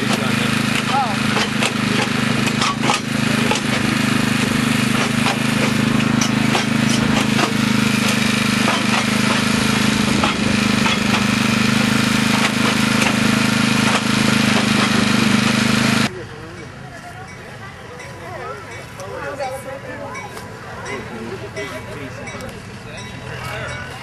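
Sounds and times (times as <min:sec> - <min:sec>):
low train drone: 0:00.0 - 0:24.0
wheels clattering on rails: 0:00.0 - 0:24.0.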